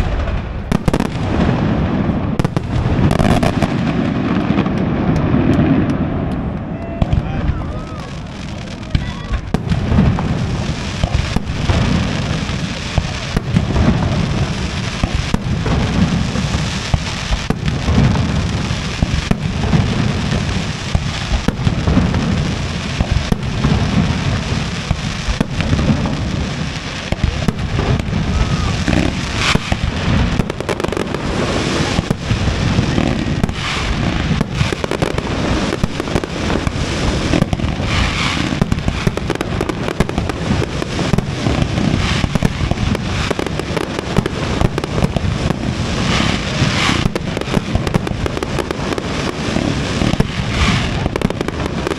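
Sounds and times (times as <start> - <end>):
fireworks shell bursts booming: 0.0 - 51.9
sharp bangs and cracks: 0.0 - 51.9.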